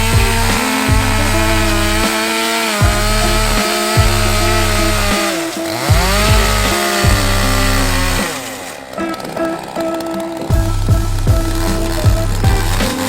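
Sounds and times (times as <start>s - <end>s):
background music: 0.0s - 13.0s
chainsaw cutting timber: 0.0s - 13.0s.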